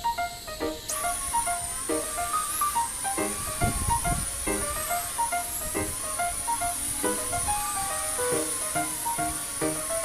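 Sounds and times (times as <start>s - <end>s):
high wavering whine: 0.0s - 10.0s.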